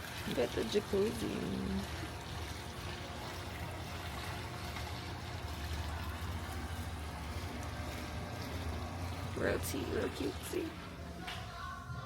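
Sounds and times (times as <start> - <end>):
water trickling: 0.0 - 11.2.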